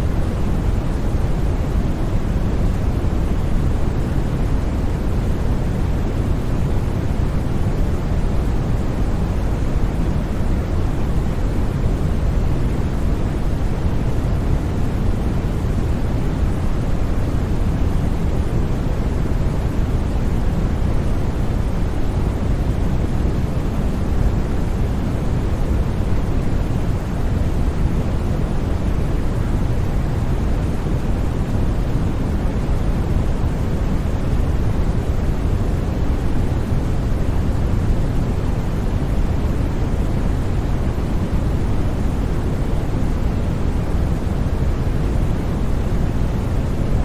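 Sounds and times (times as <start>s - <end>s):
low white noise hiss: 0.0s - 47.0s.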